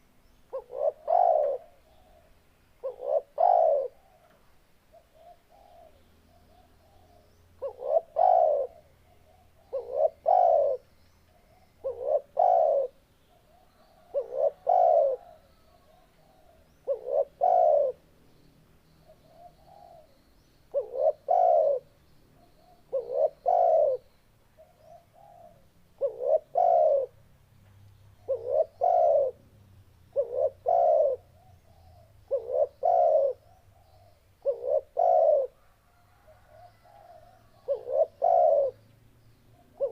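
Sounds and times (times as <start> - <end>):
dove cooing: 0.0 - 18.0, 19.0 - 27.2, 28.2 - 29.4, 30.1 - 38.9, 39.6 - 39.9.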